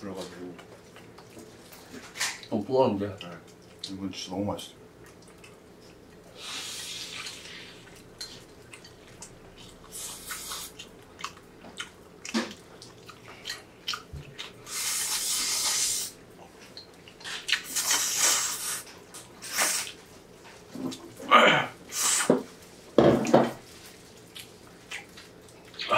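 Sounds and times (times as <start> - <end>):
wet chewing: 0.2 - 4.0, 5.0 - 21.1, 23.8 - 25.9.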